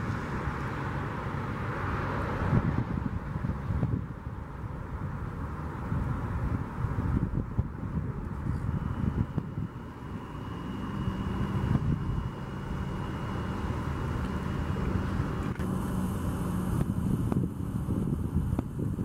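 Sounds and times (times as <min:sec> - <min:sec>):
distant train rumbling: 0:00.0 - 0:19.0
steady low hum: 0:00.0 - 0:19.0.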